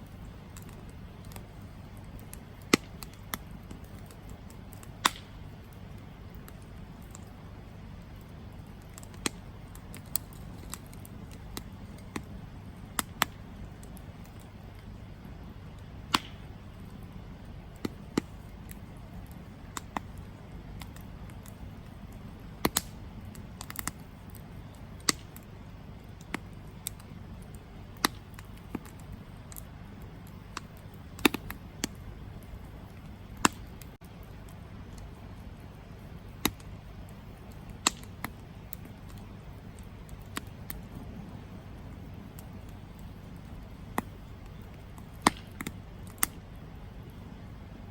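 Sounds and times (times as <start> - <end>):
campfire crackling and popping: 0.0 - 47.9
low rush of burning: 0.0 - 47.9.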